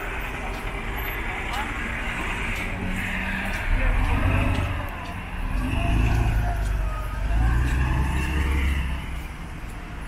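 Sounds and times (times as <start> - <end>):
traffic on wet street: 0.0 - 10.0.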